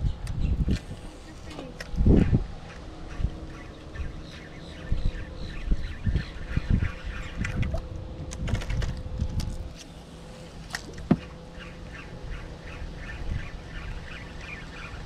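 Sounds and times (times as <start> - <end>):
birds calling: 0.0 - 7.9, 9.8 - 15.0.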